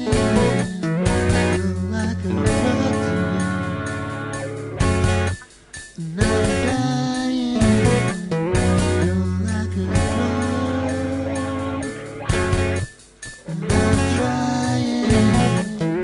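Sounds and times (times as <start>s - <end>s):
rock guitar lines: 0.0s - 16.0s
steady bass: 0.0s - 16.0s.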